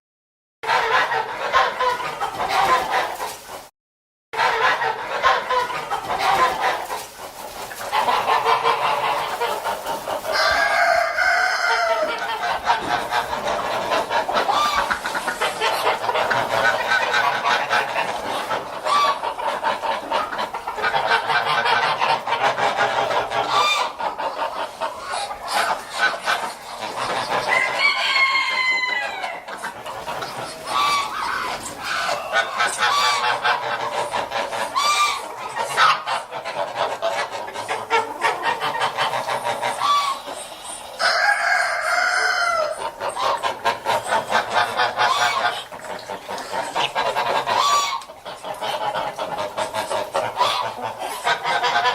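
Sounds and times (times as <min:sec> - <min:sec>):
geese cackling and honking: 0:00.6 - 0:03.7, 0:04.4 - 0:51.9.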